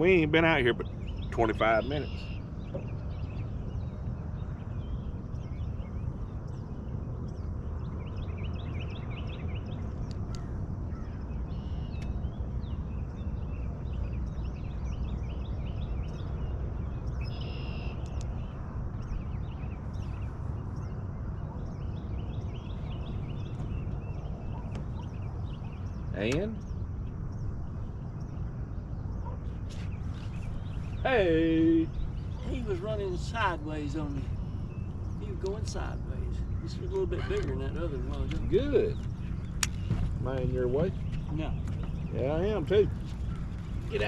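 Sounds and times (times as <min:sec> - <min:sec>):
birds chirping: 0:00.0 - 0:44.0
steady low rumble: 0:00.0 - 0:44.0.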